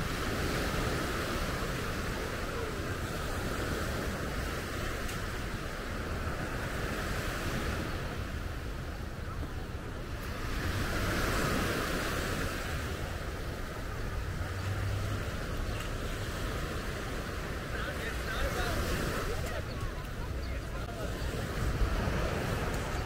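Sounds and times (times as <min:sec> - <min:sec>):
surf washing on sandy beach: 0:00.0 - 0:23.0
wind rumbling on microphone: 0:00.0 - 0:23.0.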